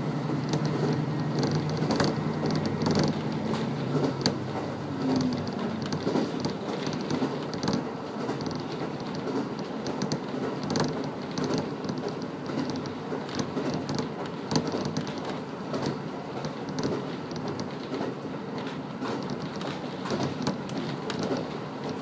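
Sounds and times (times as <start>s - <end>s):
railcar engine and wheels rumbling: 0.0s - 22.0s
small clicks and rattles: 0.5s - 4.4s, 5.0s - 22.0s.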